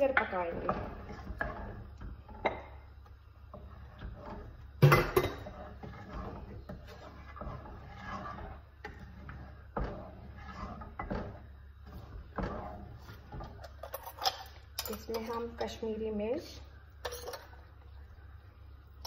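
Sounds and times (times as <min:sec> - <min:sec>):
wooden spatula scraping pot: 0:00.0 - 0:18.4.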